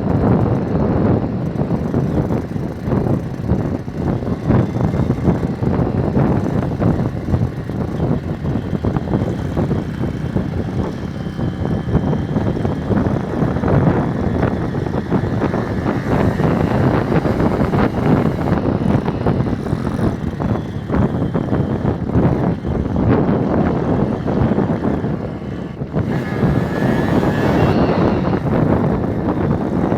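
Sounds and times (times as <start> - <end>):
small motorcycle engine running: 0.0 - 29.9
wind buffeting microphone: 0.0 - 29.9.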